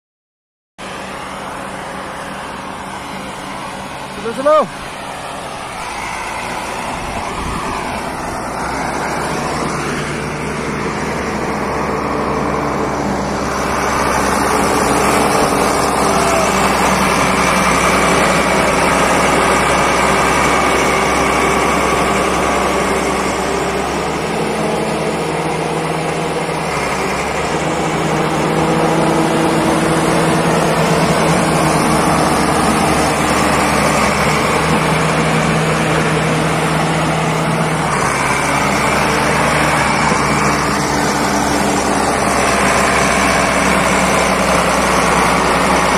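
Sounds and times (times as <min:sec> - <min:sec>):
bulldozer diesel engine under load: 0:00.8 - 0:45.9.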